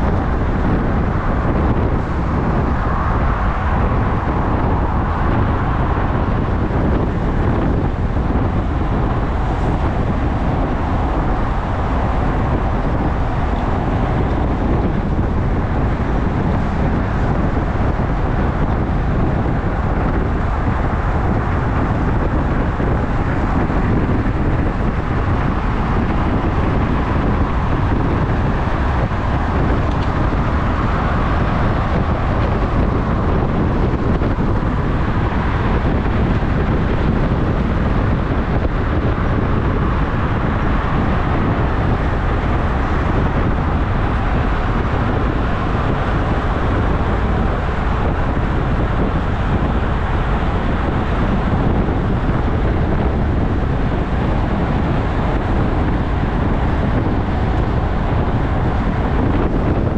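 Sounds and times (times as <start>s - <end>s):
road and traffic noise: 0.0s - 59.9s
wind buffeting microphone: 0.0s - 59.9s.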